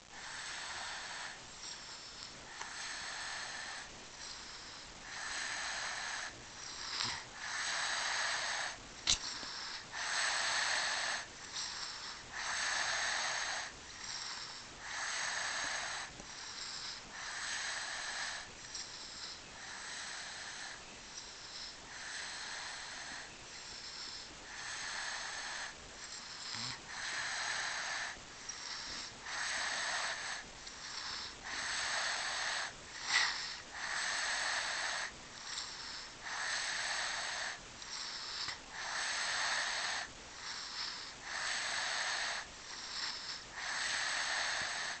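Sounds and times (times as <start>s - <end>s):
baby snoring with wheezy whistle: 0.0s - 45.0s.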